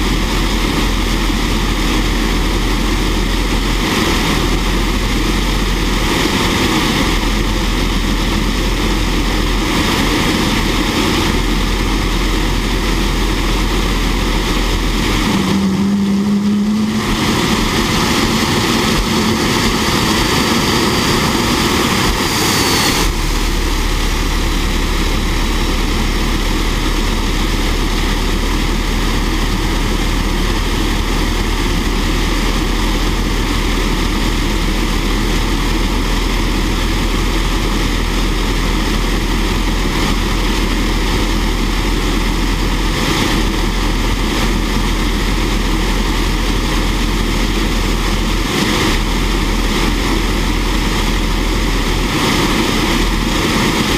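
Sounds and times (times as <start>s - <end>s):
short low hum: 0.0s - 53.9s
turbojet engine running: 0.0s - 53.9s.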